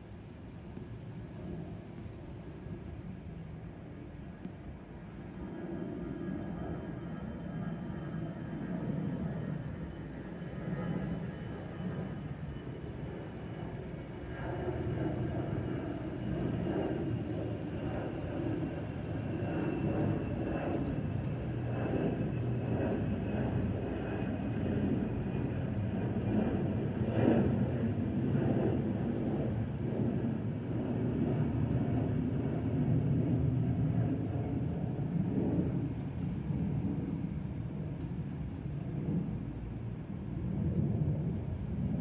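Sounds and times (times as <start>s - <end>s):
faint high jet whine: 0.0s - 42.0s
jet engine roar: 0.0s - 42.0s.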